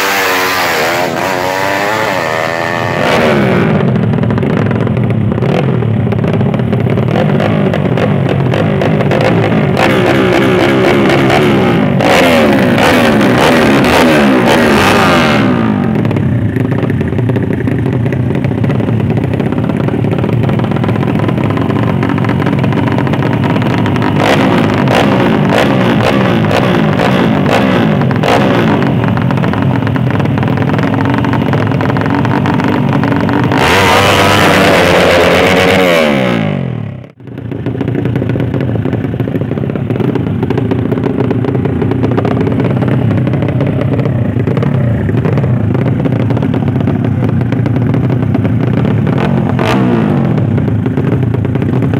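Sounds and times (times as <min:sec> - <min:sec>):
motorcycle engines revving: 0:00.0 - 0:51.9.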